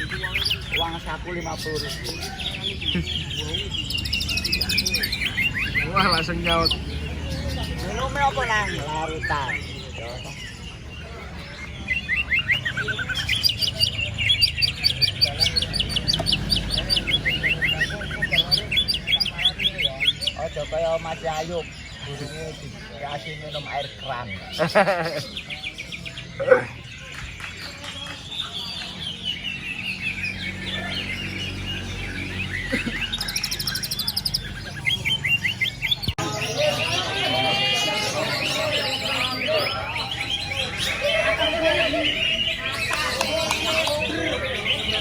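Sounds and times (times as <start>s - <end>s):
songbirds chirping: 0.0s - 45.0s.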